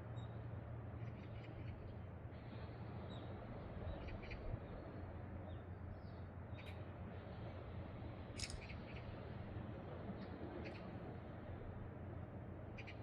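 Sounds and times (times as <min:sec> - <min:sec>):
low rushing noise from shore: 0:02.0 - 0:12.8.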